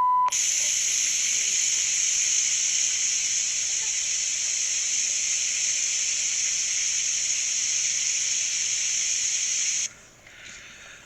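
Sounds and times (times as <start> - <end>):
steady loud hiss: 0.3 - 11.0.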